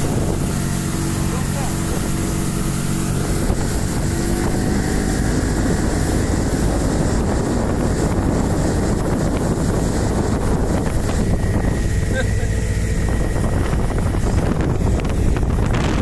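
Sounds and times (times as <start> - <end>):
motorboat engine running: 0.0 - 16.0
wind buffeting microphone: 0.0 - 16.0.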